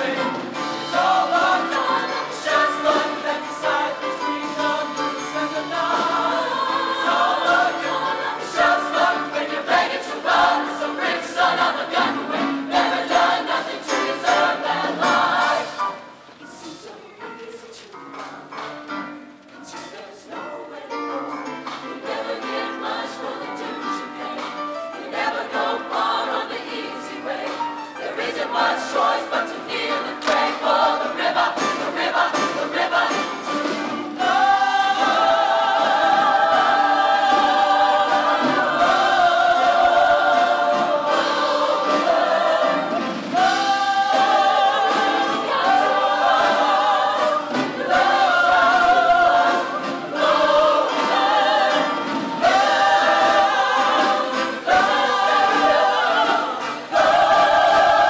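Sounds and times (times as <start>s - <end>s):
choir singing in harmony: 0.0s - 16.6s, 19.6s - 58.0s.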